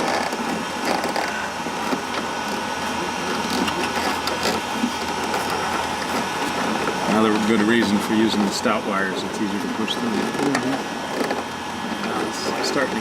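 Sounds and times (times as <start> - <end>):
steady background hum: 0.0 - 13.0
wires rustling and scraping: 0.0 - 13.0.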